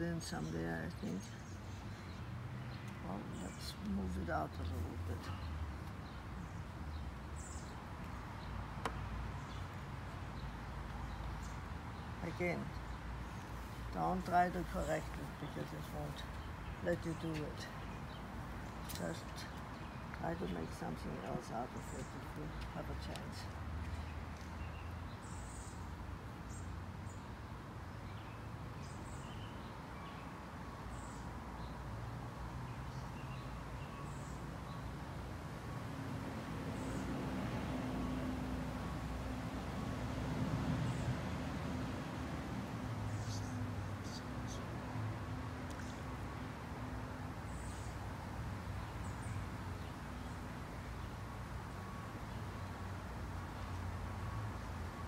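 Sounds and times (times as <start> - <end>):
small birds chirping: 0.0 - 31.8, 32.4 - 35.0, 36.7 - 37.2, 40.7 - 41.3, 42.6 - 51.2
low background noise: 0.0 - 55.0.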